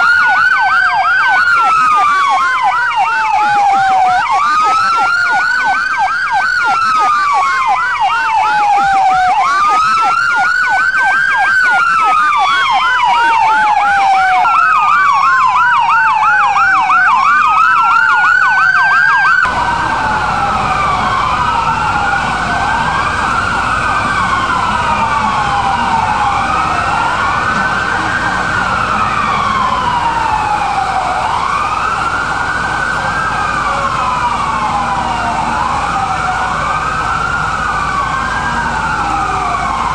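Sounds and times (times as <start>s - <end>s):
fast siren yelp: 0.0s - 39.9s
sirens wailing: 0.0s - 39.9s.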